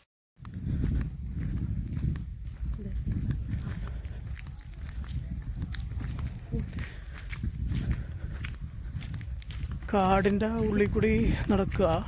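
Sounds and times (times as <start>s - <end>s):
footsteps on a forest trail: 0.0s - 12.0s.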